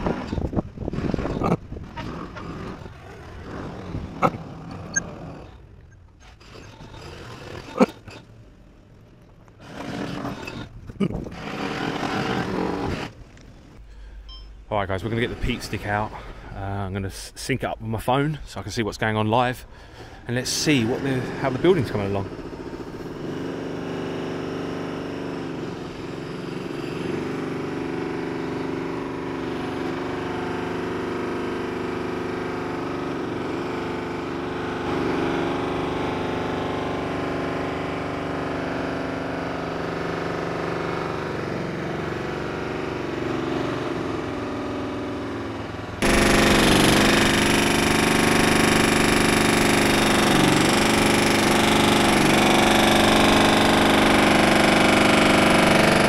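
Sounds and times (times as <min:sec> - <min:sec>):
construction machinery running: 0:00.0 - 0:56.0.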